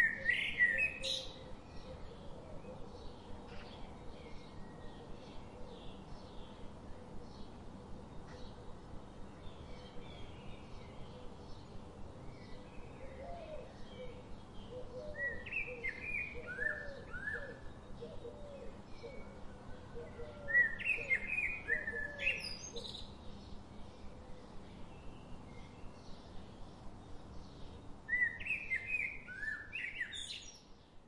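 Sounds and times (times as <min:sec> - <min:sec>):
birds singing: 0:00.0 - 0:31.0.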